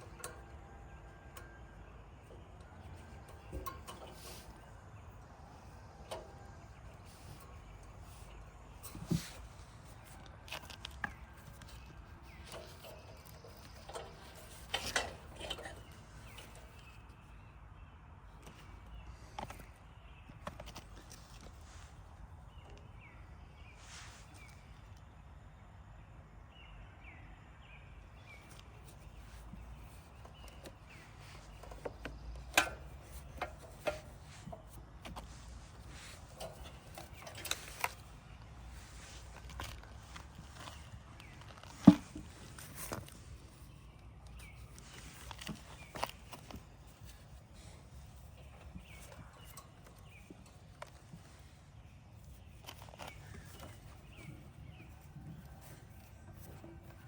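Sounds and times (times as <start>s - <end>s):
low steady background noise: 0.0s - 57.0s.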